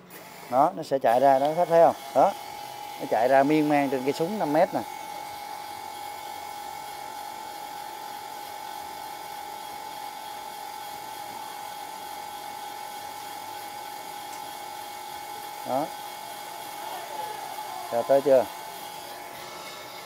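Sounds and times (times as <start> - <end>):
wire feed motor whining: 0.0 - 20.0.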